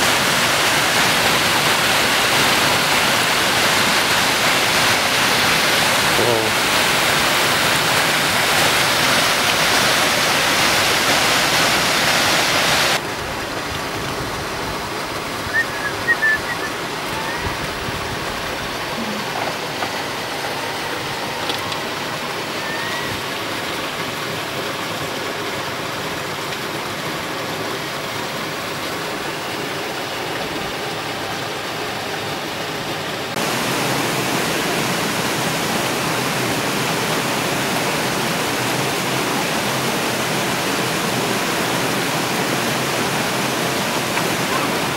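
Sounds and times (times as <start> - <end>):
stream water rushing over rocks: 0.0 - 44.9.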